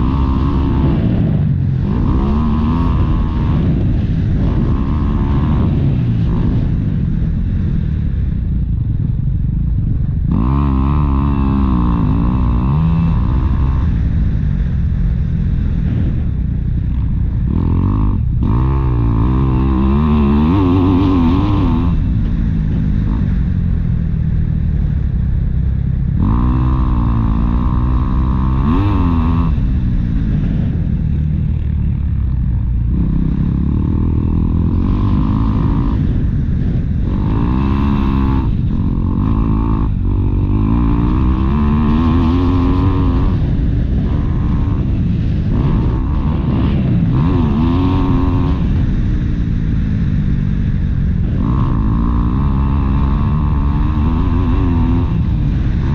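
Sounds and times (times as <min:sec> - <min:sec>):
motocross motorcycle engine revving: 0:00.0 - 0:55.9.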